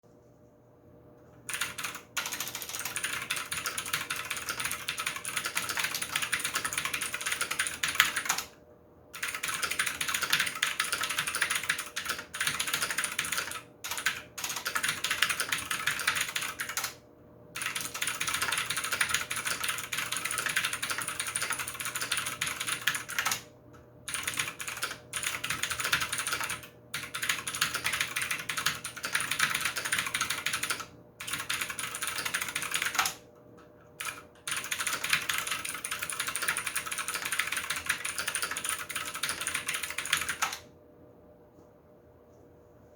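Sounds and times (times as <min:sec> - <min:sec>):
mechanical keyboard typing: 0:01.5 - 0:08.6, 0:09.2 - 0:17.0, 0:17.6 - 0:23.5, 0:24.1 - 0:33.2, 0:34.0 - 0:40.7.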